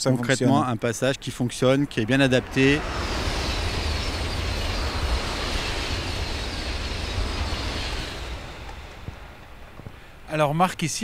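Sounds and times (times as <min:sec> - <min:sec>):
high-speed train passing: 0:01.0 - 0:11.0.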